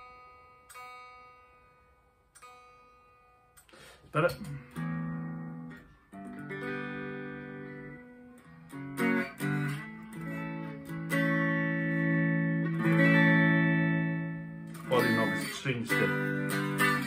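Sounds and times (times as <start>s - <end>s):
electric guitar chords ringing: 0.0s - 17.0s.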